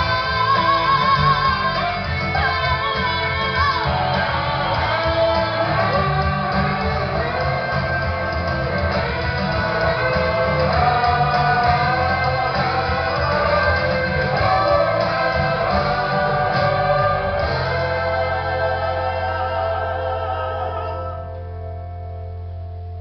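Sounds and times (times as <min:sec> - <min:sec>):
live rock band with singing: 0:00.0 - 0:21.9.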